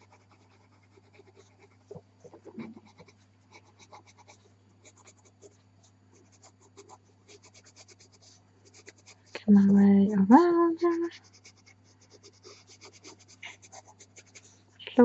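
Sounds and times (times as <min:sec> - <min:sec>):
pastel pencil scratching paper: 0:00.0 - 0:09.3, 0:10.6 - 0:14.6.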